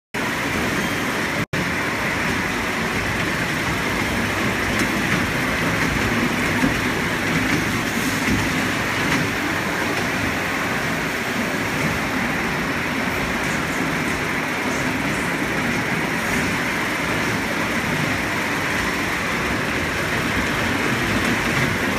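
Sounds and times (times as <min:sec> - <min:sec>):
train ride wheels rumbling on track: 0:00.2 - 0:21.9.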